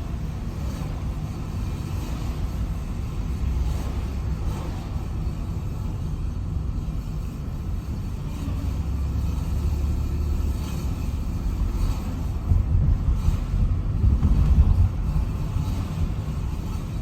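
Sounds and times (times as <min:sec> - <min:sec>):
car rolling low rumble: 0:00.0 - 0:17.0.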